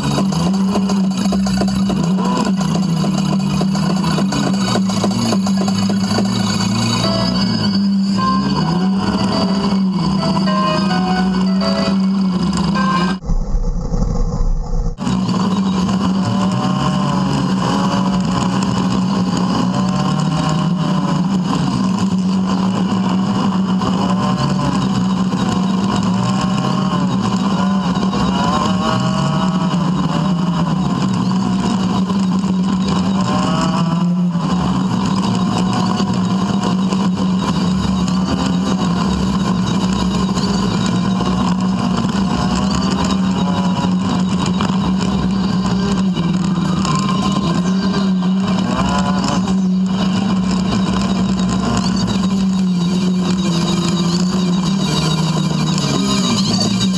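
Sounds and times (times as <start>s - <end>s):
engine revving while driving: 0.0s - 13.4s, 14.2s - 56.9s.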